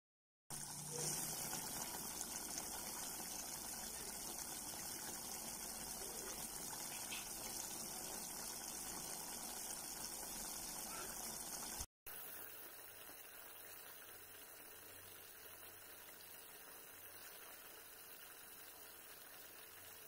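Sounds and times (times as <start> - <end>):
pot simmering with bubbling hiss: 0.5 - 20.0.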